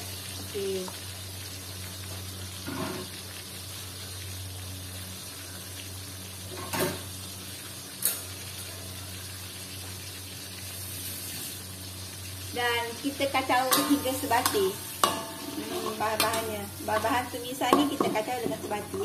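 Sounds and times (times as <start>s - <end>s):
paste sizzling in a wok: 0.0s - 19.0s.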